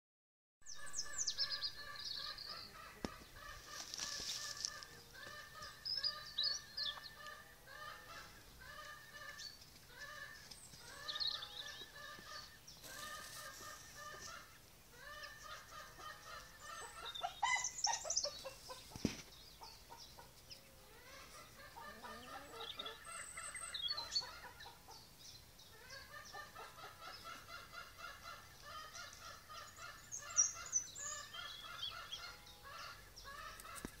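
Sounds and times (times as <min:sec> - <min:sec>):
hens cackling: 0:01.8 - 0:25.1, 0:25.8 - 0:34.0.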